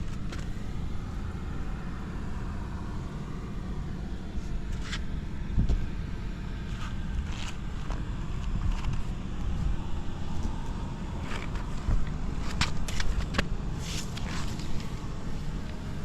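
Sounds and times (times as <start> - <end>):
small engine exhaust rumble: 0.0 - 16.0.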